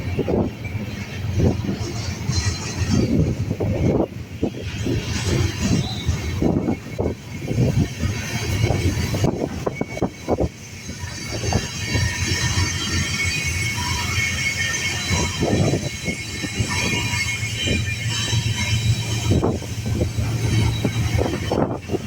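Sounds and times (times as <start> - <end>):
high-pitched wheel squeal: 0.2 - 22.0.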